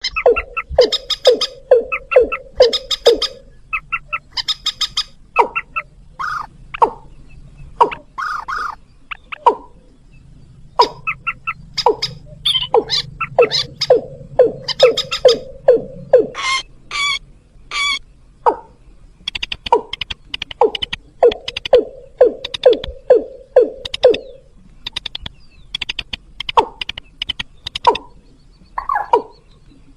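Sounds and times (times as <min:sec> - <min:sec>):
longer ringing bird calls: 0:00.0 - 0:19.0, 0:19.7 - 0:25.8, 0:26.5 - 0:29.9
birds calling sharp repeated notes: 0:00.0 - 0:29.9.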